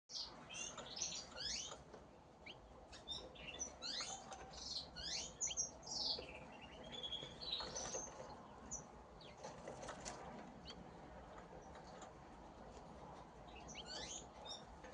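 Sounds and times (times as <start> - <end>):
canaries chirping: 0.1 - 14.9.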